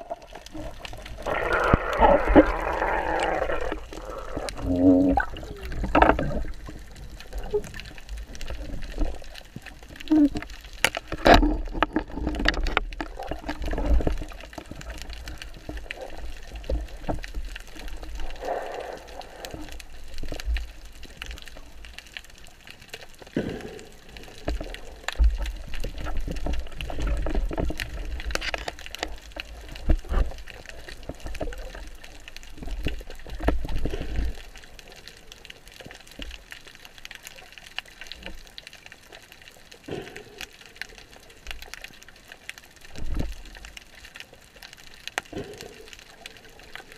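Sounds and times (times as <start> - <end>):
water sloshing and gurgling: 0.0 - 46.9.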